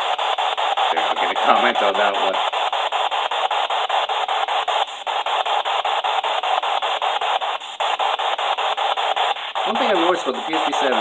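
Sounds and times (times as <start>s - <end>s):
stepped radio static hiss: 0.0s - 11.0s.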